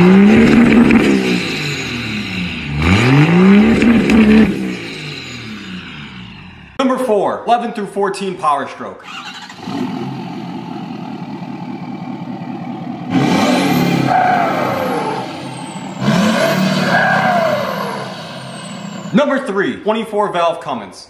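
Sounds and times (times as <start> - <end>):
diesel engine idling and revving: 0.0 - 6.8, 9.0 - 19.2.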